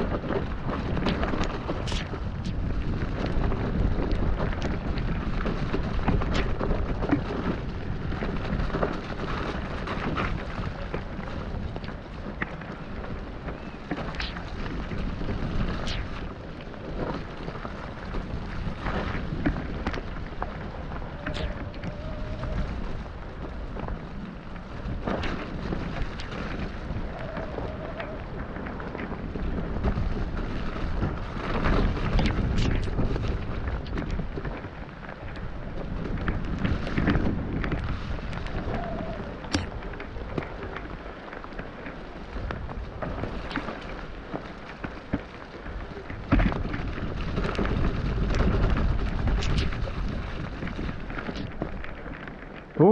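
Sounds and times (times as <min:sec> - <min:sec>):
bike tyres running through mud: 0:00.0 - 0:52.9
wind on microphone: 0:00.0 - 0:52.9.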